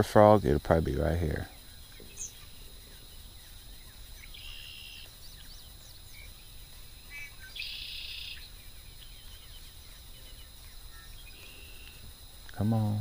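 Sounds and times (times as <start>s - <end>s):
birds chirping: 0.0s - 13.0s
buzzy bird calls: 0.0s - 13.0s.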